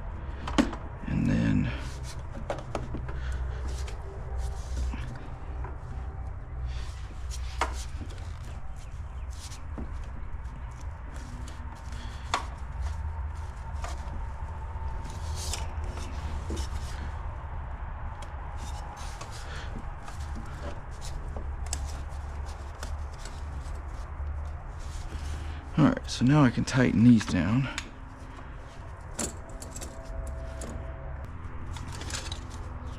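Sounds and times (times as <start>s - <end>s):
steady low hum: 0.0s - 32.9s
scraping and rubbing of pipes: 1.7s - 32.9s.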